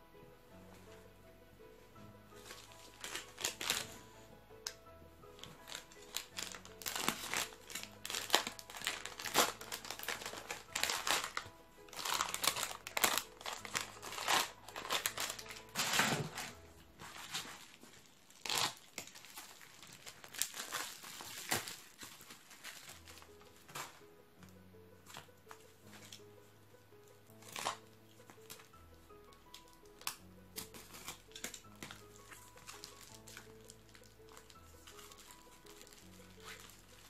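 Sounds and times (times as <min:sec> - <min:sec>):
soft background music: 0:00.0 - 0:37.0
plastic bag and bubble wrap crinkling: 0:02.2 - 0:26.5, 0:27.3 - 0:37.0.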